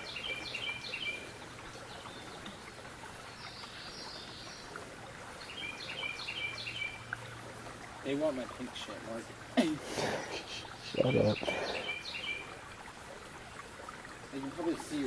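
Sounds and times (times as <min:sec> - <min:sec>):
songbird chirping: 0:00.0 - 0:09.3, 0:10.5 - 0:15.0
creek water rushing: 0:00.0 - 0:15.0.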